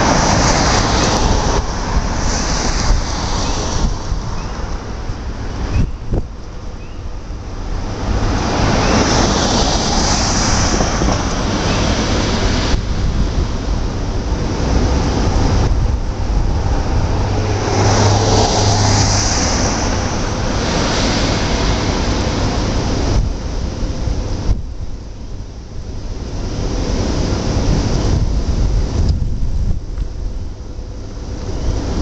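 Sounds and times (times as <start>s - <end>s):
cars passing: 0.0s - 29.1s, 29.8s - 32.0s
low traffic rumble: 0.0s - 32.0s.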